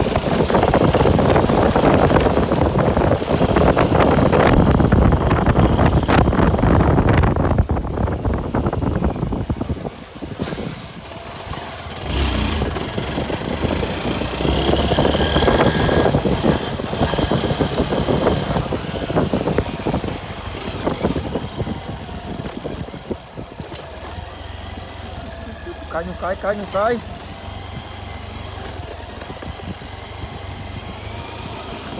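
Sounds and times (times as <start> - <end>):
rushing wind noise: 0.0 - 31.9
vehicle engine running: 0.0 - 31.9.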